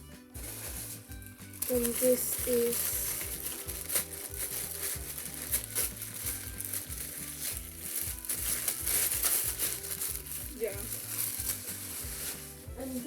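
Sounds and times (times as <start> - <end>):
background music with bass: 0.0 - 13.0
plastic packaging crinkling: 0.4 - 13.0.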